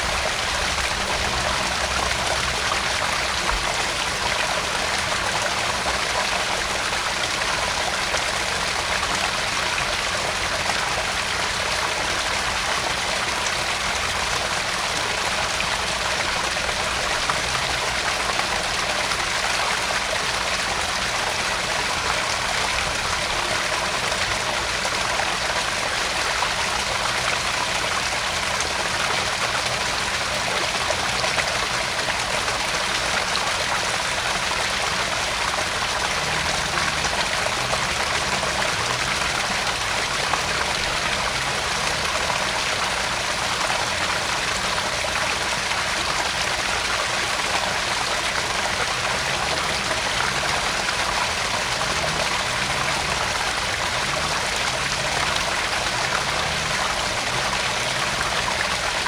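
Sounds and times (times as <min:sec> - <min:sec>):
water splashing into pond: 0:00.0 - 0:59.0.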